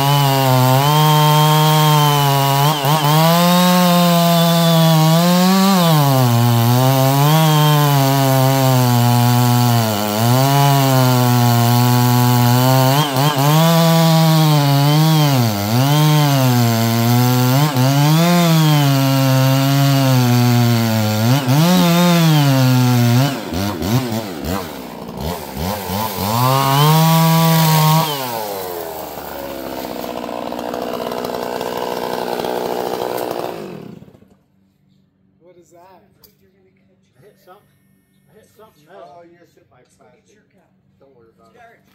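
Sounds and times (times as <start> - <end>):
chainsaw cutting wood: 0.0 - 34.4.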